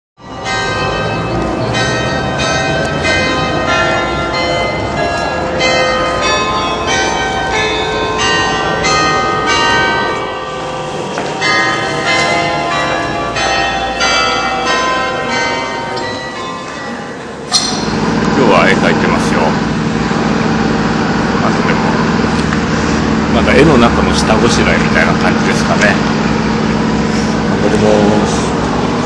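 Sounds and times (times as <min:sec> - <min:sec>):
church bells pealing: 0:00.2 - 0:29.0.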